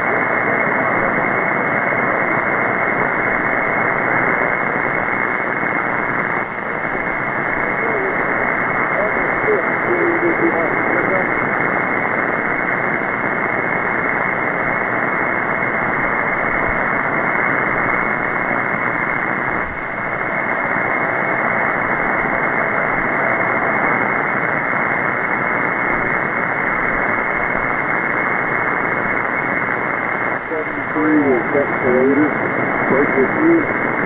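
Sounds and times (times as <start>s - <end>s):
shortwave radio static hiss: 0.0s - 34.0s.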